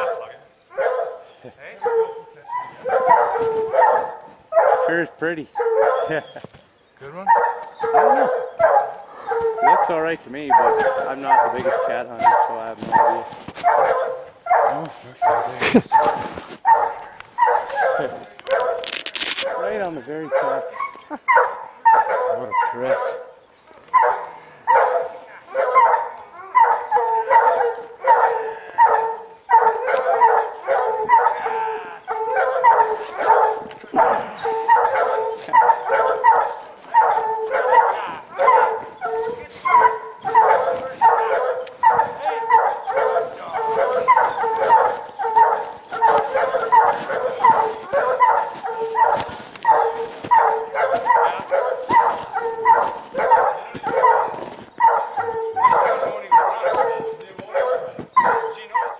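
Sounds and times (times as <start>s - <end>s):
hounds barking: 0.0s - 58.9s.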